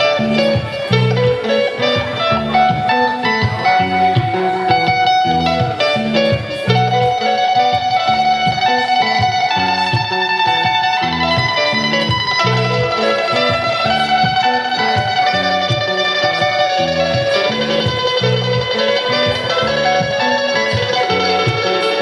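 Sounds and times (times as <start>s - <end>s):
electric guitar: 0.0s - 22.0s
live band playing: 0.0s - 22.0s.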